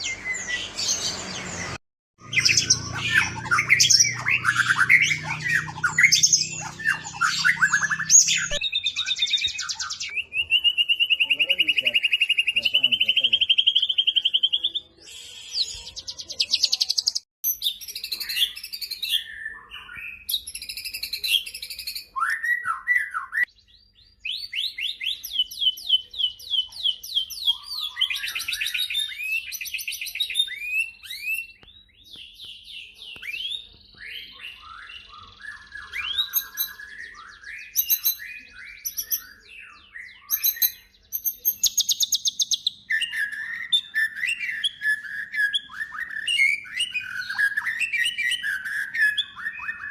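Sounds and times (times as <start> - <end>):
bird singing trills and whistles: 0.0 - 49.9.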